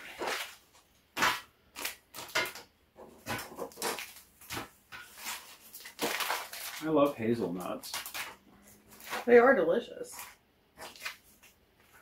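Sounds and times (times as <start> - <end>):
plastic and foil packets crinkling: 0.0 - 12.0.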